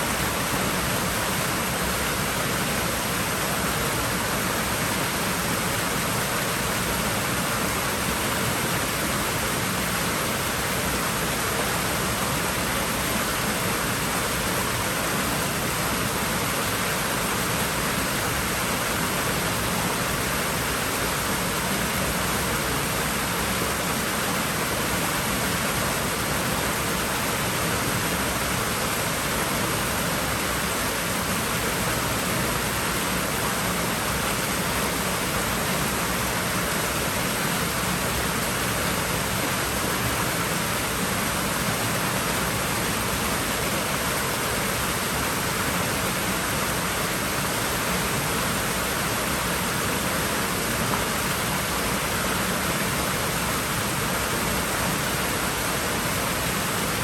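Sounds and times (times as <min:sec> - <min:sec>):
rush of water at a pool: 0:00.0 - 0:57.0.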